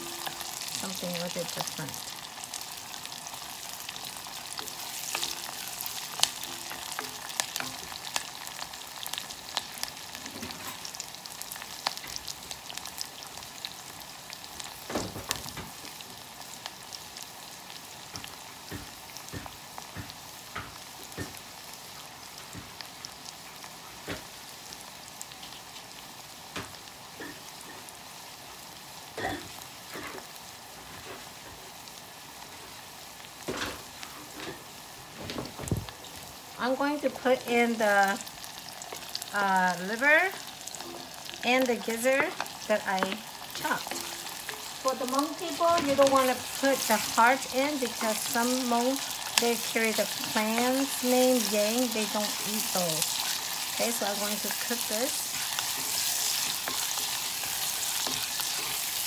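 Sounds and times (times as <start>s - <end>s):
frying sizzle with crackles: 0.0s - 59.0s.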